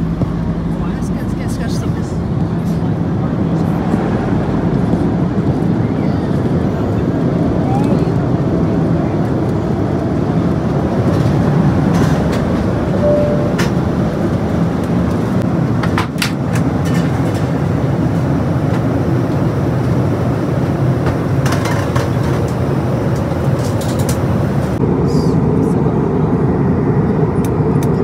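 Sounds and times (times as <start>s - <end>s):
airliner cabin airflow and engine noise: 0.0s - 28.0s.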